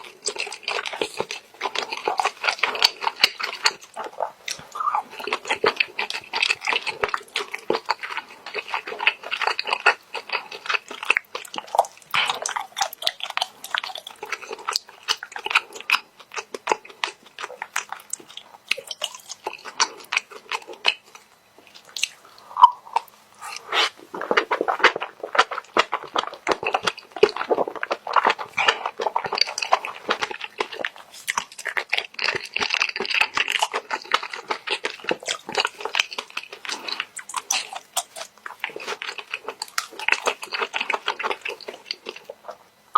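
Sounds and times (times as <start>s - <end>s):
chewing and mouth smacking: 0.0s - 42.9s.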